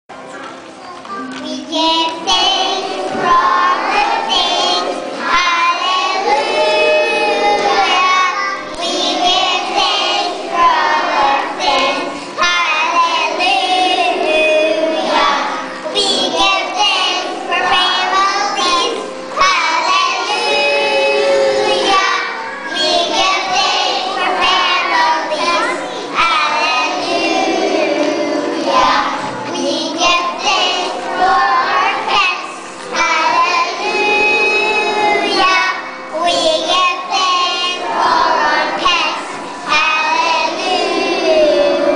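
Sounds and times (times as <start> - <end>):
children singing together: 1.0 - 41.9.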